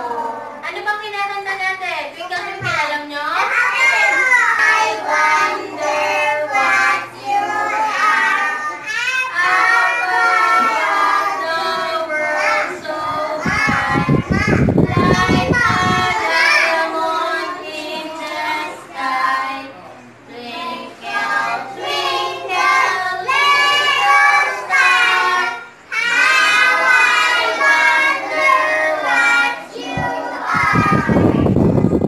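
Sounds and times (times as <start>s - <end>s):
young children singing: 3.5s - 32.0s.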